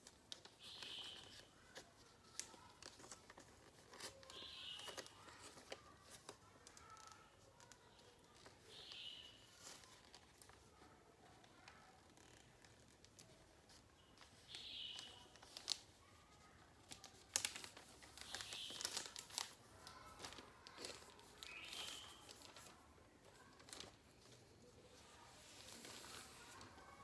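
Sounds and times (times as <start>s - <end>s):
paper being folded and creased: 0.0s - 27.0s
paper crackles: 0.0s - 27.0s.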